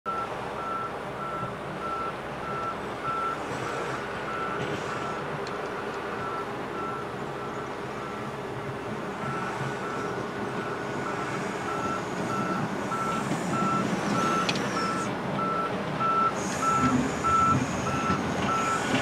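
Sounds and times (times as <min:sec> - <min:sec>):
travel alarm beeping: 0:00.1 - 0:03.4, 0:05.8 - 0:08.2, 0:09.2 - 0:18.9
excavator engine running: 0:00.1 - 0:19.0.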